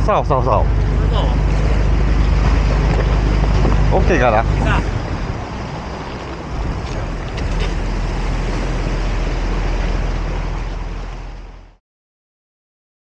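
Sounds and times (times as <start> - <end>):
wind buffeting microphone: 0.0 - 11.6
boat engine humming: 0.0 - 11.8
water wash: 0.0 - 11.8.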